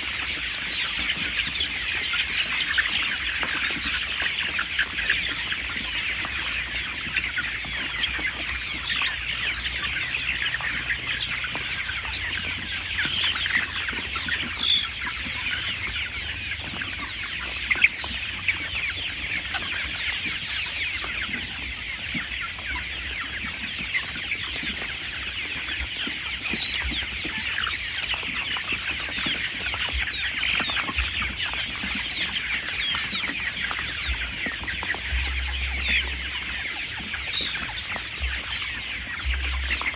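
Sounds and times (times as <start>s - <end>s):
chickens peeping and clucking: 0.0s - 39.9s.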